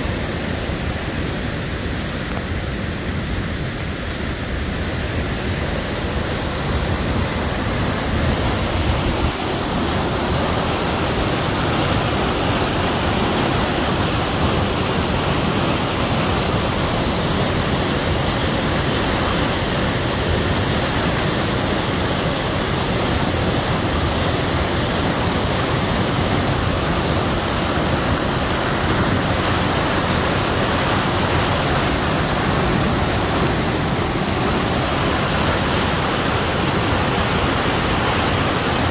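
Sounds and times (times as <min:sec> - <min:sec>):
turbulent river water rushing: 0:00.0 - 0:38.9.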